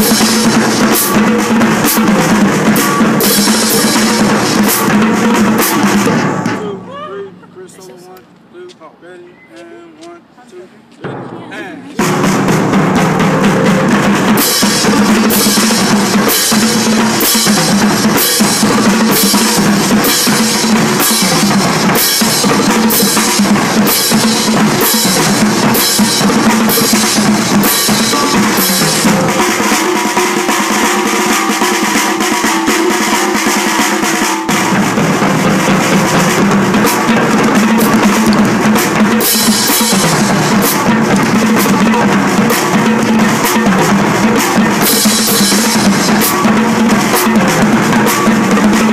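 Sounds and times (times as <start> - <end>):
marching drumline playing: 0.0 - 48.9.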